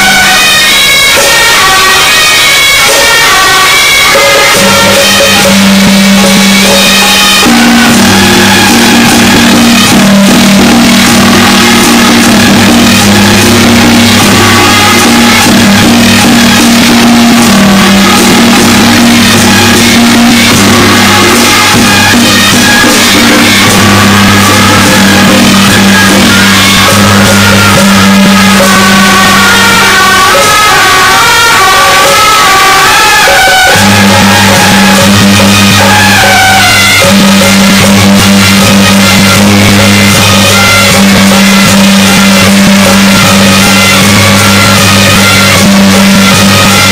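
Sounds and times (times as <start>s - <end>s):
drums and percussion beating: 0.0s - 46.9s
long held low tones: 4.6s - 30.2s, 33.7s - 46.9s.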